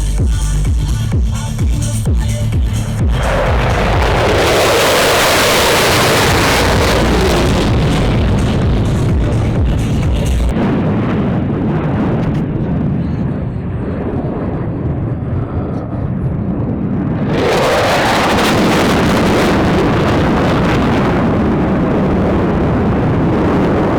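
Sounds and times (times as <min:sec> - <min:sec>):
aircraft engine roar: 0:00.0 - 0:23.9.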